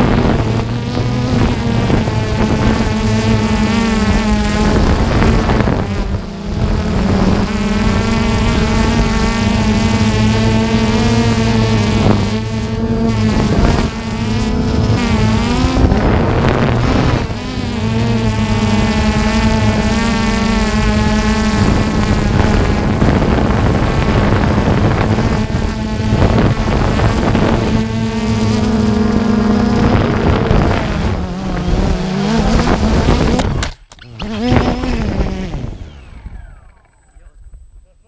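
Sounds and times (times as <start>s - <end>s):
drone motors buzzing: 0.0s - 38.0s
wind on microphone: 0.0s - 38.0s.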